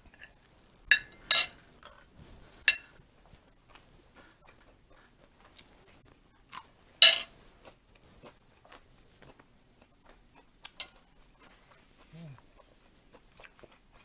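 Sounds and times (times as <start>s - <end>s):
chewing and mouth clicks: 0.0s - 14.0s.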